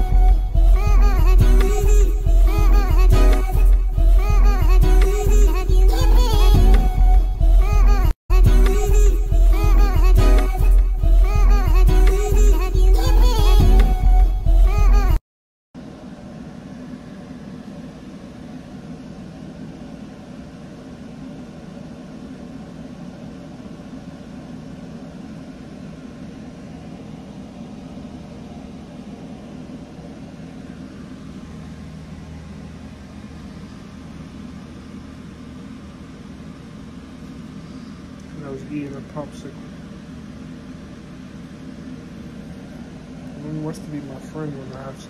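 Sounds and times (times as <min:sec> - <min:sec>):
mechanical room hum: 0:00.0 - 0:15.2, 0:15.8 - 0:45.0.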